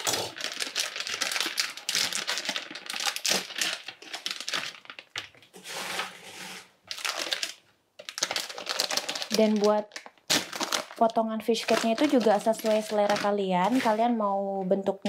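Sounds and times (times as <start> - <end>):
plastic food packet crinkling: 0.0 - 6.2, 6.8 - 14.2.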